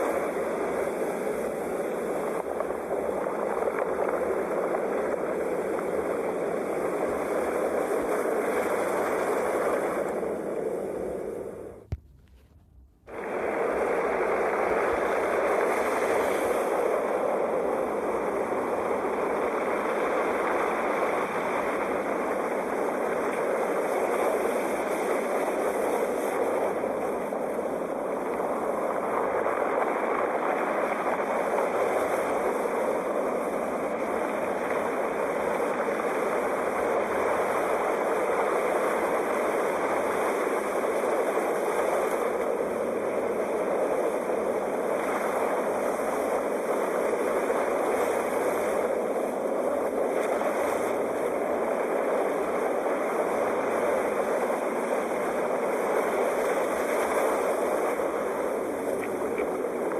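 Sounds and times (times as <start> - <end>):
sea waves surf: 0.0 - 59.9.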